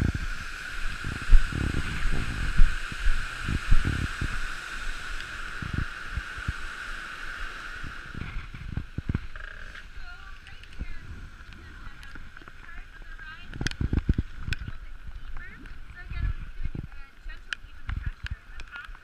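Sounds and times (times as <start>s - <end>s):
waterfall rushing: 0.0s - 16.6s
wind buffeting microphone: 0.0s - 19.0s.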